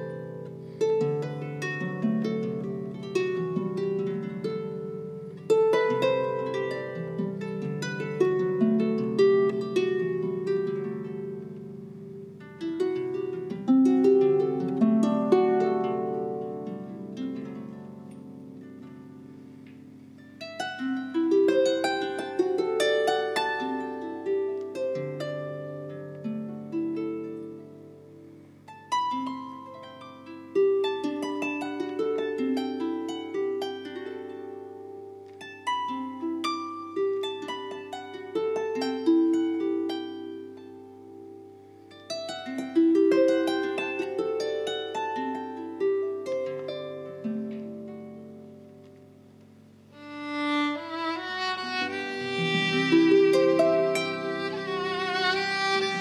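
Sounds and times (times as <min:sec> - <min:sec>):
solo harp music: 0:00.0 - 0:56.0.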